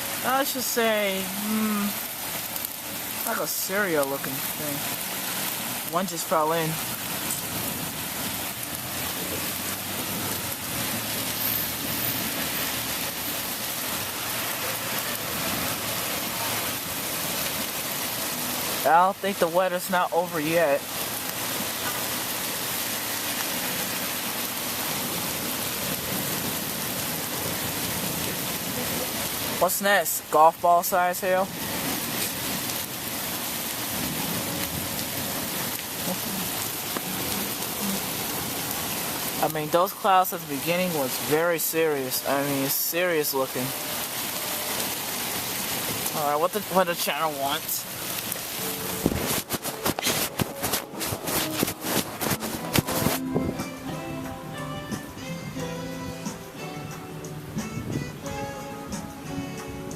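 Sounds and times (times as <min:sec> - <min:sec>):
heavy rain with hailstones: 0:00.0 - 0:59.9.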